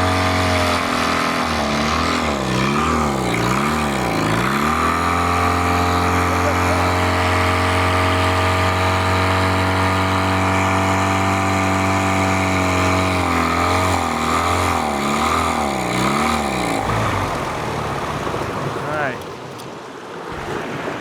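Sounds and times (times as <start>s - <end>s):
boat motor surging: 0.0s - 21.0s.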